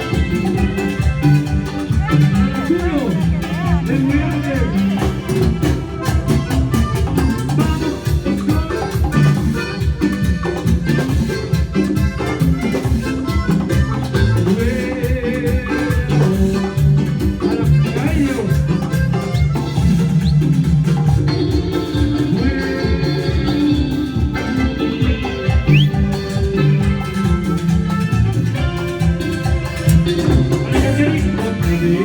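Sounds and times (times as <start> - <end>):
latin dance band playing: 0.0 - 32.0.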